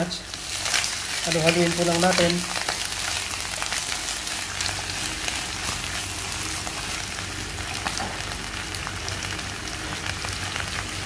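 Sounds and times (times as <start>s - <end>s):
spinach sizzling in hot oil: 0.0s - 11.0s.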